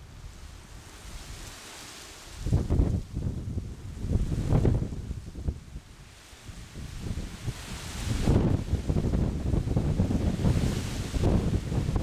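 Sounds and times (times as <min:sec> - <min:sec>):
wind buffeting microphone: 0:02.3 - 0:12.0.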